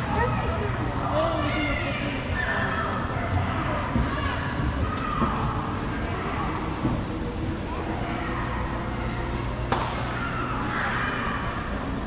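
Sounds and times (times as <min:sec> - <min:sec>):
murmur of distant voices: 0:00.0 - 0:12.0
steady low hum: 0:00.0 - 0:12.0.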